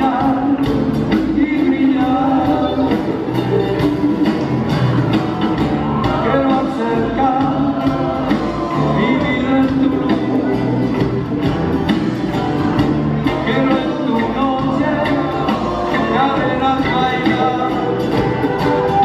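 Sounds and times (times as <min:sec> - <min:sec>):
person singing: 0:00.0 - 0:04.5, 0:05.5 - 0:11.2, 0:13.2 - 0:19.0
drums keeping a steady beat: 0:00.0 - 0:19.0
folk-rock band playing: 0:00.0 - 0:19.0.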